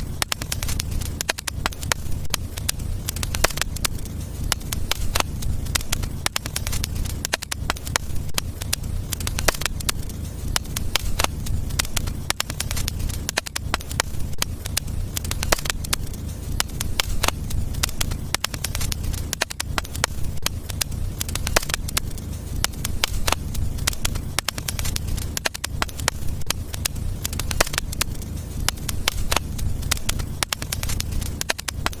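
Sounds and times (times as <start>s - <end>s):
sharp pops of fire: 0.0s - 32.0s
wood fire crackling: 0.0s - 32.0s.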